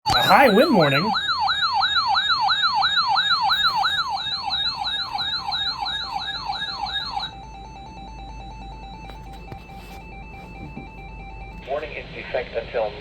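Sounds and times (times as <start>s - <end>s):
electronic siren yelping: 0.0s - 11.7s.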